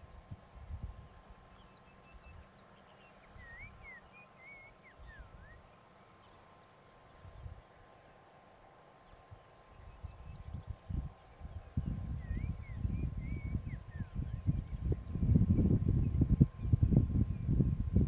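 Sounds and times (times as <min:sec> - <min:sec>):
thin insect drone: 0:00.0 - 0:18.0.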